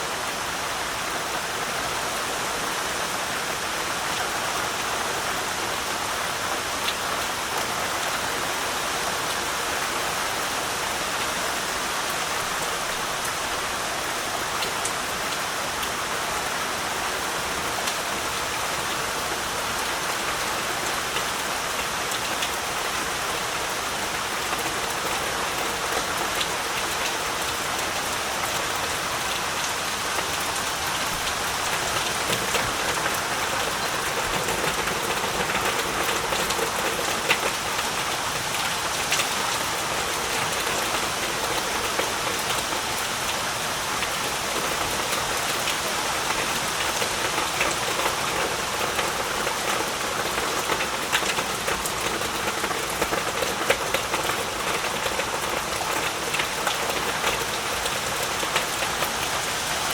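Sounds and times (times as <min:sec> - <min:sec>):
heavy rain: 0:00.0 - 0:59.9
raindrops ticking on surfaces: 0:00.1 - 0:59.9.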